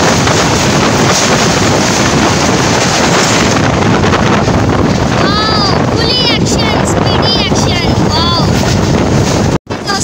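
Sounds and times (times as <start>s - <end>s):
wind rushing at train window: 0.0s - 10.0s.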